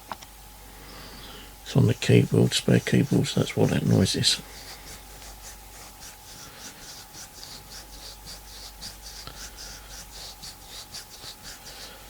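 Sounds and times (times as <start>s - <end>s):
fingernails scratching skin: 1.8s - 12.0s.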